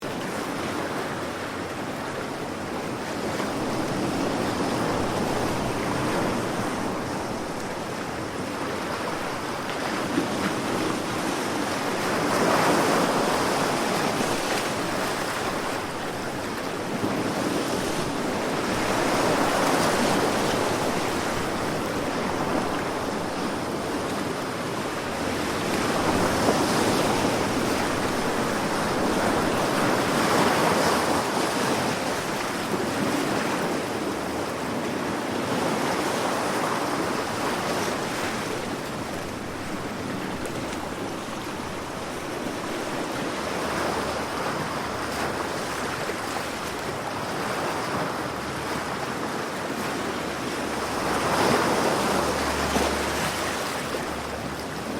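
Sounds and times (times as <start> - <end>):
sea waves: 0.0 - 54.9.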